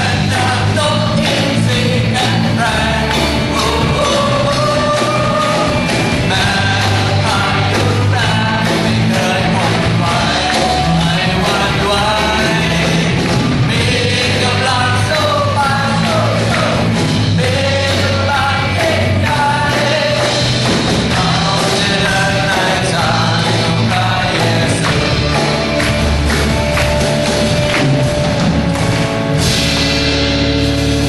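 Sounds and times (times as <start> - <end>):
person singing melody: 0.0 - 25.7
bass notes: 0.0 - 31.0
drum kit: 0.0 - 31.0
worship band playing: 0.0 - 31.0.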